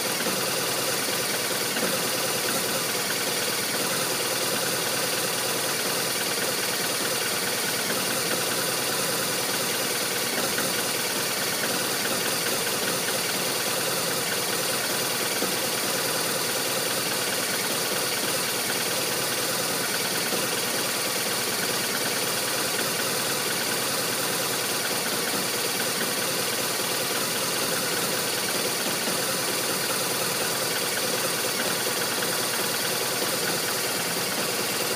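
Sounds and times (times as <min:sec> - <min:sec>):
motorcycle engine rough idle: 0:00.0 - 0:34.9.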